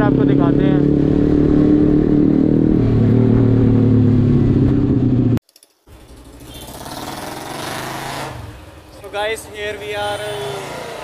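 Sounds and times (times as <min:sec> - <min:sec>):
quiet street noise: 0:00.0 - 0:11.0.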